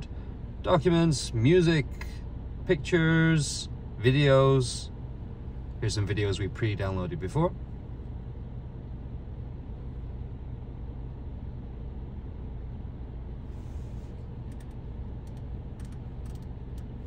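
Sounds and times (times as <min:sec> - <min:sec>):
low hum inside car cabin: 0:00.0 - 0:17.0.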